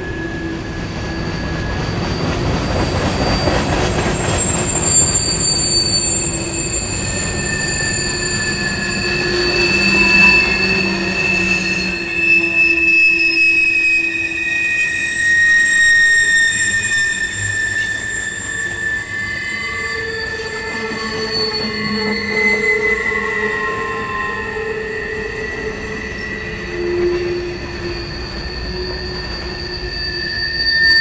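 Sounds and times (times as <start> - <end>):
rolling rumble of train cars: 0.0 - 31.0
train wheels squealing on rails: 0.0 - 31.0.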